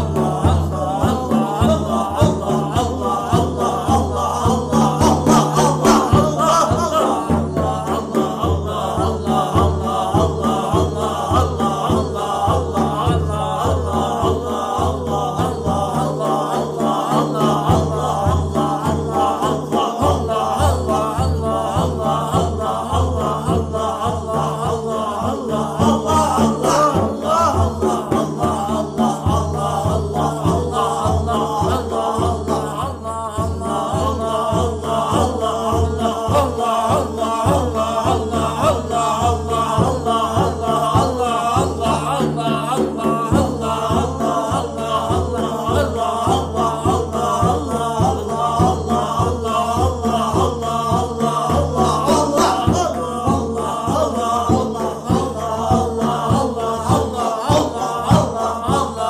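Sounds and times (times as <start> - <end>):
group of voices chanting: 0.0 - 59.0.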